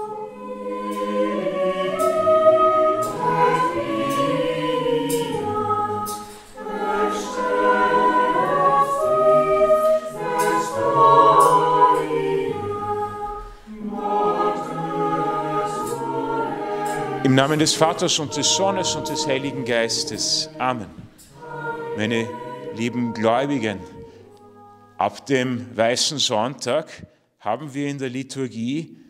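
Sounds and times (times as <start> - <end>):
choir singing sacred music: 0.0 - 26.8.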